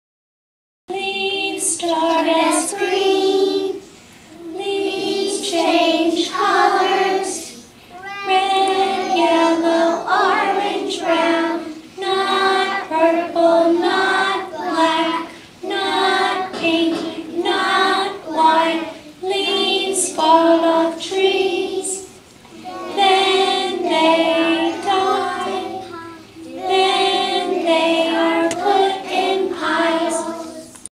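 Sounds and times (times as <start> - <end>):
children singing in unison: 0.9 - 30.9.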